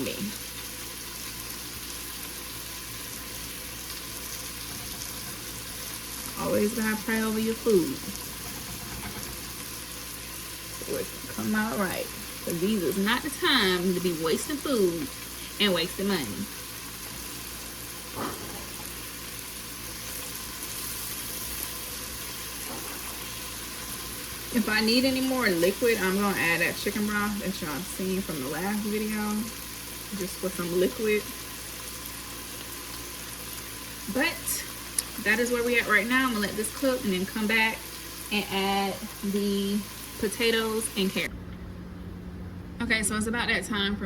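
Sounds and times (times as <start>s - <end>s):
sauce sizzling in a pan: 0.0s - 41.3s.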